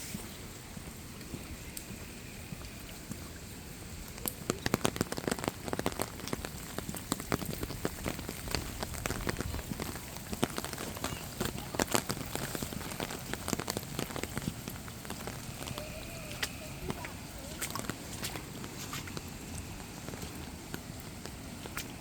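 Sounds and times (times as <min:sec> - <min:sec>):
rain hiss: 0:00.0 - 0:22.0
raindrops pattering nearby: 0:00.0 - 0:22.0.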